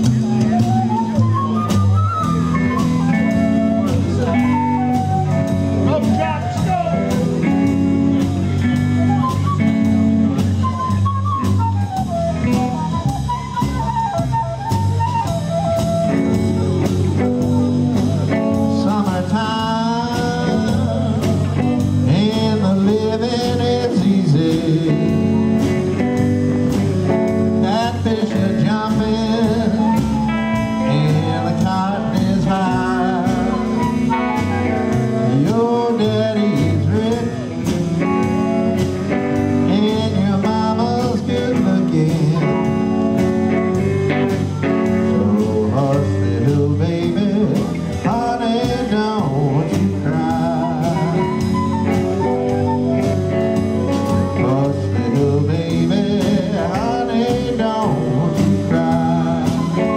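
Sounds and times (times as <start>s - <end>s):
blues band song with singing: 0.0s - 59.9s.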